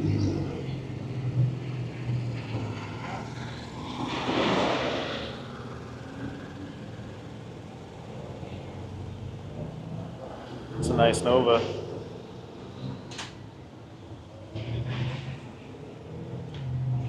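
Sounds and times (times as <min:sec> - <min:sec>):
vehicle engine humming: 0:00.0 - 0:17.0
vehicle passing by: 0:00.0 - 0:17.0.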